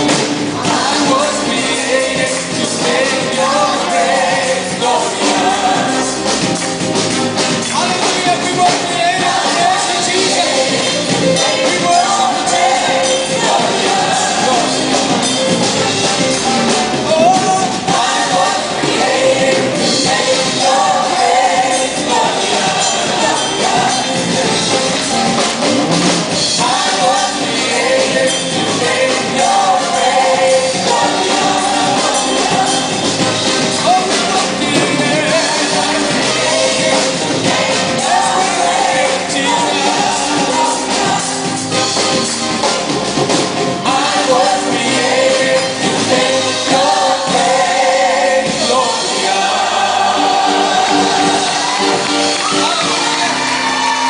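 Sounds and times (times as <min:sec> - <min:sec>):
worship song with band and singing: 0:00.0 - 0:54.0.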